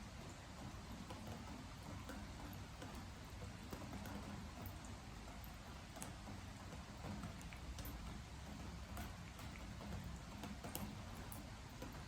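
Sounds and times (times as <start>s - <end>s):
steady rain: 0.0s - 12.0s
drips tapping on wooden deck: 0.5s - 12.0s.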